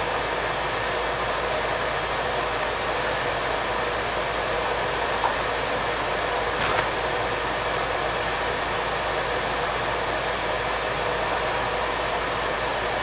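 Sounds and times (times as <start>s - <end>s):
fan whooshing hiss: 0.0s - 13.0s.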